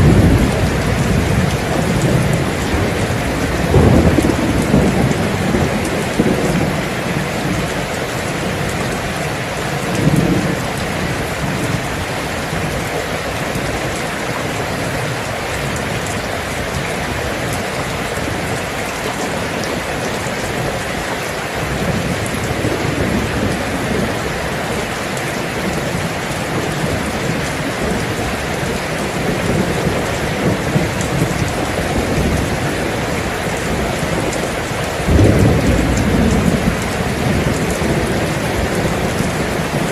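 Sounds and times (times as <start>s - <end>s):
heavy rain hissing: 0.0s - 39.9s
low thunder rumbling: 0.0s - 39.9s.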